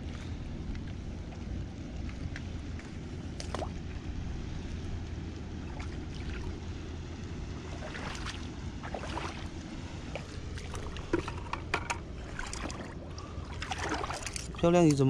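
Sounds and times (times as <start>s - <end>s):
footsteps wading through water: 0.0s - 15.0s
wind rumble on microphone: 0.0s - 15.0s.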